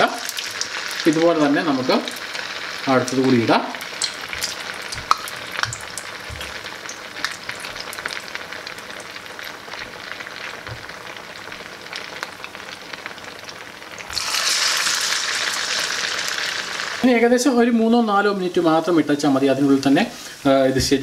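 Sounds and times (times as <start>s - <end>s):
oil sizzling in frying pan: 0.0s - 21.0s.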